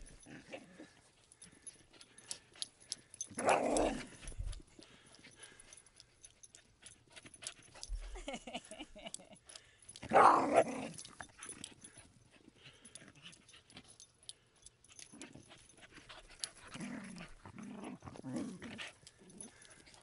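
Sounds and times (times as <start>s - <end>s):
small dogs growling and scuffling: 0.0s - 8.6s, 10.0s - 14.0s, 14.9s - 20.0s.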